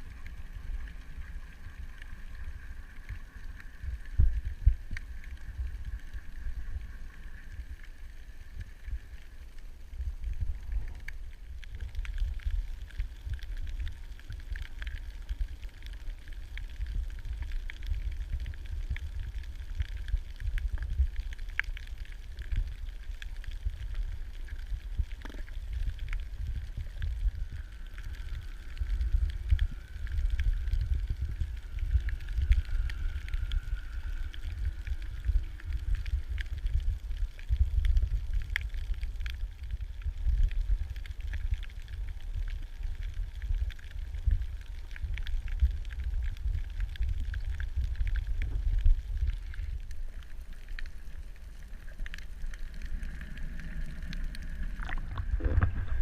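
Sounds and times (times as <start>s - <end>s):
faint clicks and crackles: 0.0s - 56.0s
underwater rumble of water: 0.0s - 56.0s.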